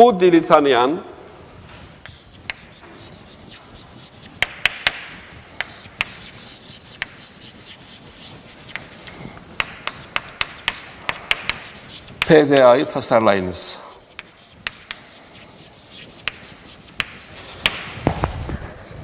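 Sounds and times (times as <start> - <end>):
chalk tapping and scratching: 1.7 - 13.2, 13.9 - 19.0.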